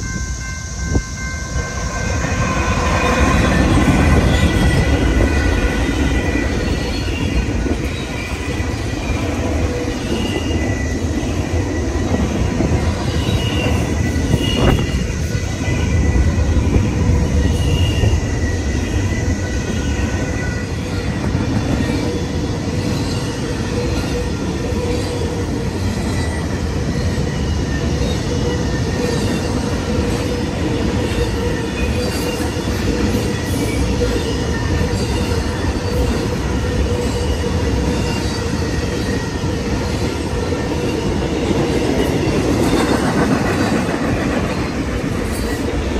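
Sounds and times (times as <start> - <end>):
high wheel squeal: 0.0 - 45.9
train wheels rumbling: 0.0 - 45.9.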